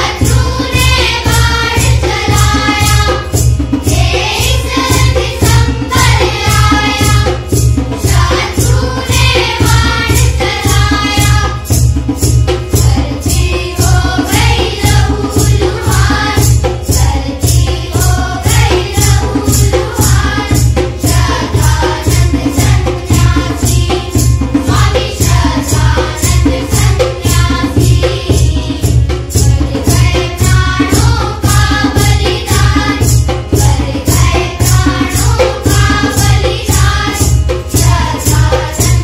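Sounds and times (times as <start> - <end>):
children singing: 0.0 - 39.0
recorded music with percussion beat: 0.0 - 39.0.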